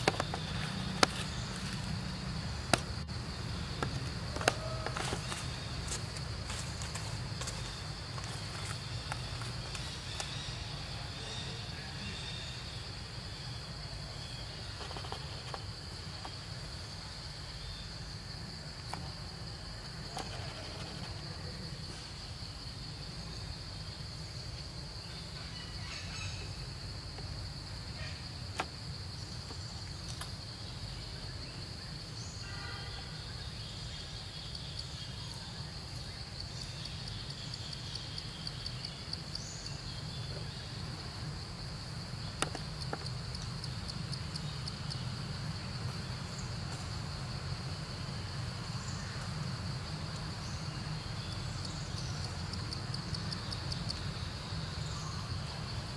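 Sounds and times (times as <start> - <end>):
insects buzzing: 0.0 - 55.9.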